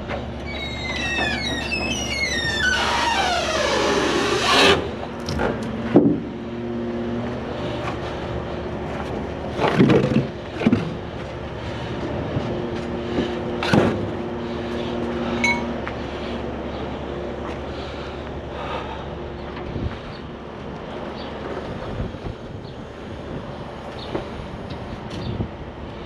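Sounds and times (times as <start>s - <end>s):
diesel truck engine idling: 4.8s - 26.0s.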